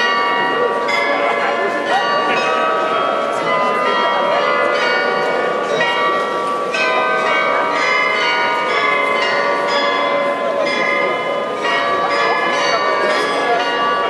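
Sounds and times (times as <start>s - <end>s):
tuned bells playing a tune: 0.0s - 14.0s.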